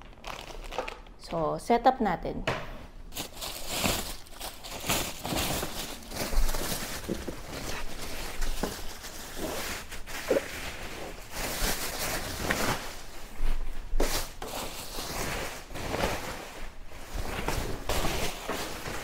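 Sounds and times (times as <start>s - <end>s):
packaging rustling: 0.0s - 1.2s, 3.1s - 19.0s.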